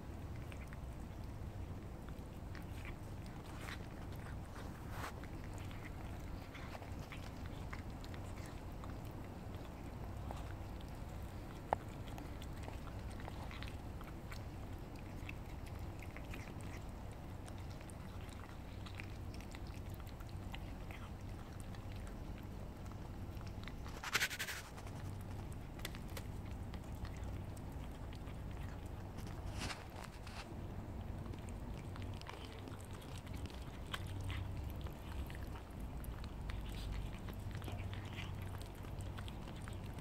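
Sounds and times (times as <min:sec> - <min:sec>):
cats chewing wet food: 0:00.0 - 0:40.0
low background rumble: 0:00.0 - 0:40.0.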